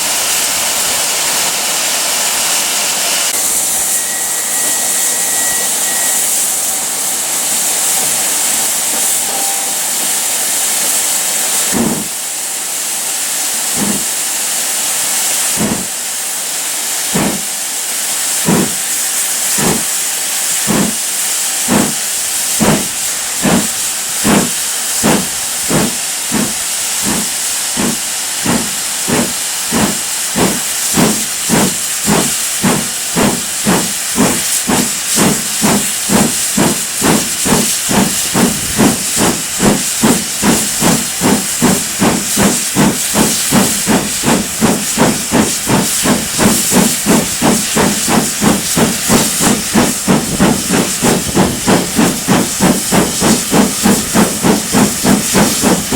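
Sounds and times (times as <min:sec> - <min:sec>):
steam hissing: 0:00.0 - 0:55.9
steam locomotive exhaust beats: 0:00.0 - 0:55.9.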